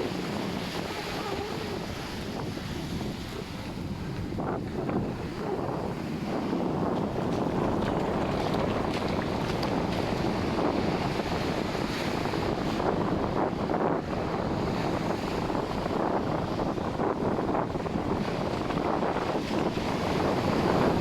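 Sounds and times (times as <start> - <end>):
ocean surf breaking: 0.0 - 21.0
wind on microphone: 0.0 - 21.0.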